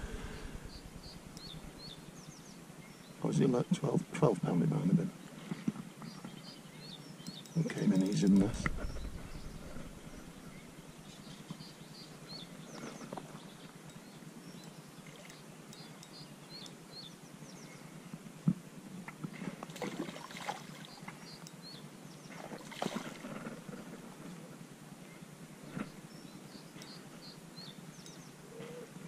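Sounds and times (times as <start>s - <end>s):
small birds chirping: 0.0s - 18.2s, 20.2s - 23.9s, 25.0s - 29.0s
low outdoor hiss: 0.0s - 29.0s.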